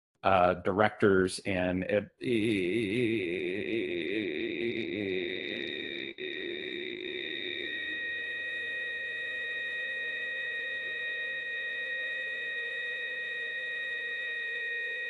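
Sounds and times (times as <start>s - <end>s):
high-pitched hum of held tones: 2.2s - 15.0s.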